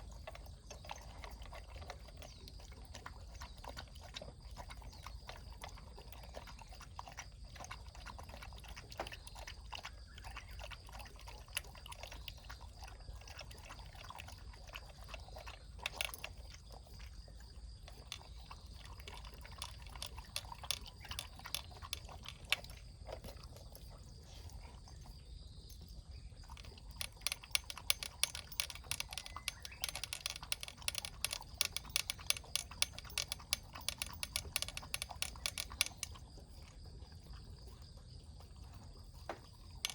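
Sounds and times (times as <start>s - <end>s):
pet crunching food: 0.0s - 39.9s.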